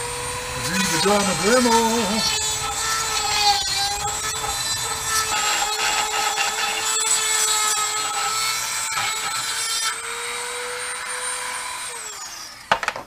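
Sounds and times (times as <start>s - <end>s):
rotary tool grinding metal: 0.0s - 12.7s.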